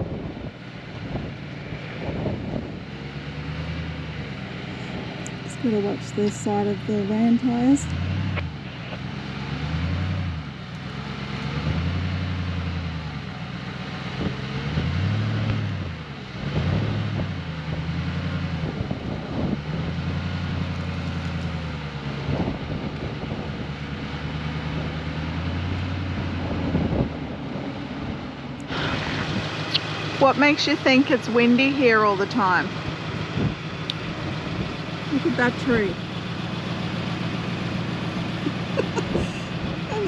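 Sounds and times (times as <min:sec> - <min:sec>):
engine working at low speed: 0:00.0 - 0:40.0.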